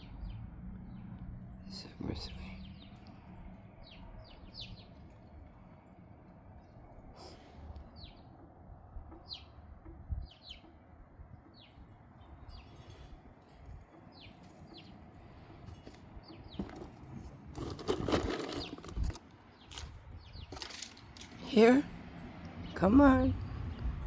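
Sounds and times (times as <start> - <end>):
small birds chip calls: 0.0 - 21.9.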